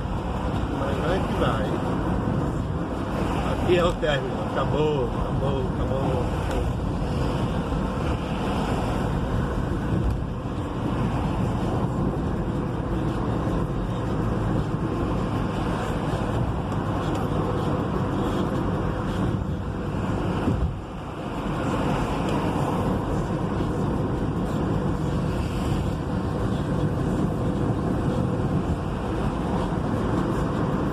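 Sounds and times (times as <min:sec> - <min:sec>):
vehicle engine and road noise: 0:00.0 - 0:30.9.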